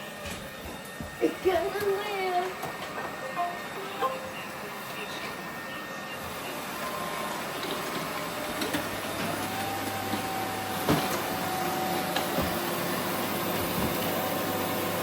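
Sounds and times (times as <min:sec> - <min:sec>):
robot vacuum whirring: 0:00.0 - 0:14.7.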